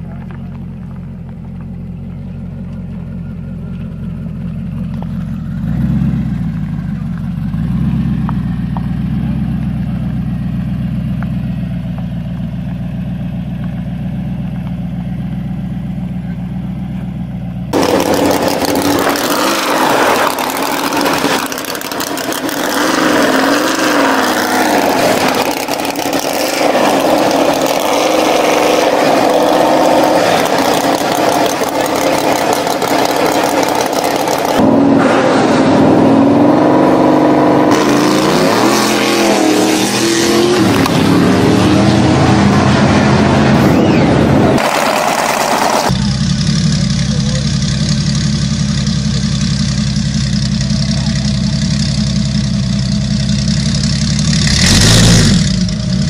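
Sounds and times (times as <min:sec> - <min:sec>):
loud engine with wavering pitch: 0:00.0 - 0:56.0
motorcycle engine idling and revving: 0:00.0 - 0:56.0.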